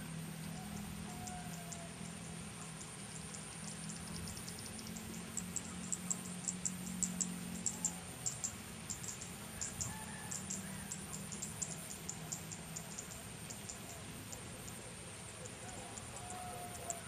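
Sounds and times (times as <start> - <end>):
low steady hum: 0.0 - 16.9
small birds chirping: 0.0 - 17.0.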